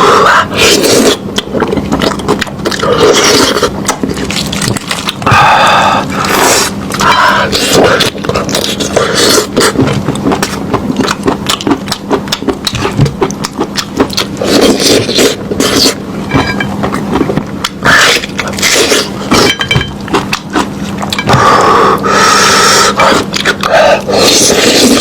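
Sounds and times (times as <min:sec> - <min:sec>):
chewing meat: 0:00.0 - 0:25.0
faint steady hum: 0:00.0 - 0:25.0.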